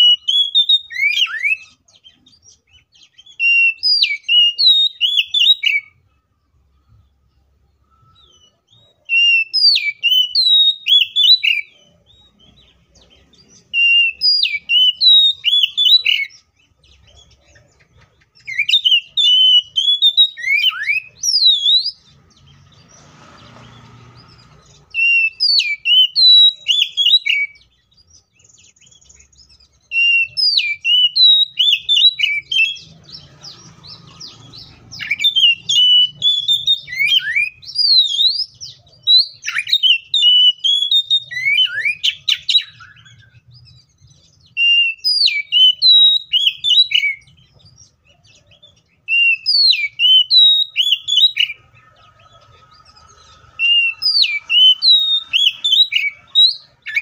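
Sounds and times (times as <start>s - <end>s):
bird whistling song: 0.0s - 57.0s.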